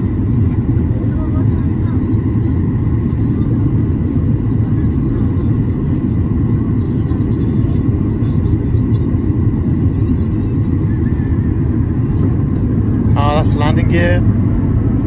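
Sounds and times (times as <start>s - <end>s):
airplane cabin roar: 0.0s - 15.0s.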